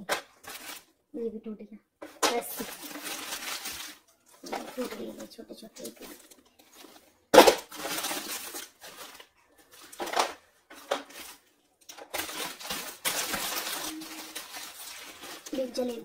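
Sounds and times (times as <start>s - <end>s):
clay pieces crackling and rustling: 2.0s - 16.0s.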